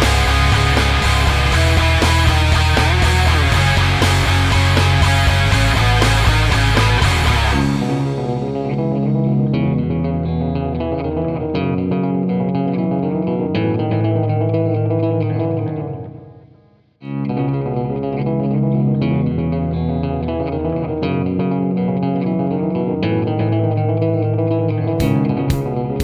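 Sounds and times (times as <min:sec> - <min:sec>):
guitar and bass music: 0:00.0 - 0:26.0.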